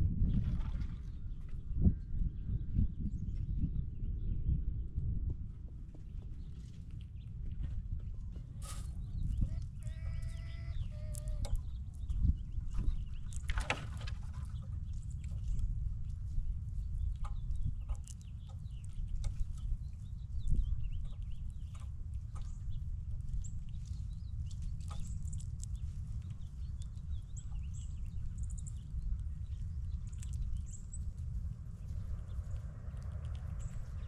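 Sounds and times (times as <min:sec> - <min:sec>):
steady low rumble: 0:00.0 - 0:13.5, 0:14.1 - 0:34.0.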